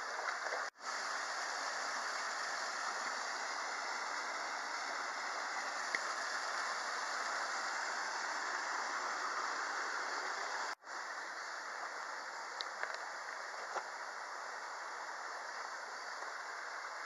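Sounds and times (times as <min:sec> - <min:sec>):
stream flowing over rocks: 0:00.0 - 0:17.0.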